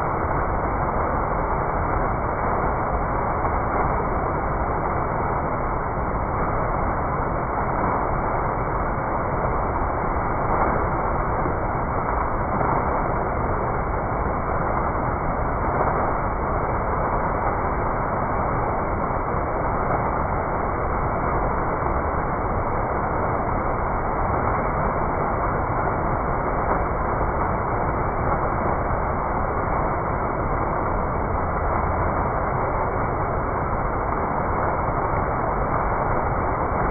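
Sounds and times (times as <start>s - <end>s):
fountain water splashing into basin: 0.0s - 36.9s.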